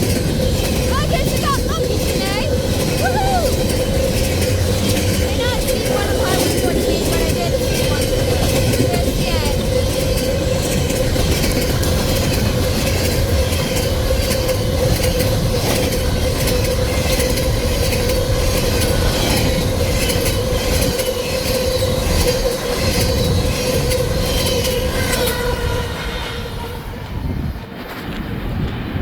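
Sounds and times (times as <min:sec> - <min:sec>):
train wheels clicking over rail joints: 0:00.0 - 0:26.6
steady high squeal: 0:00.0 - 0:27.7.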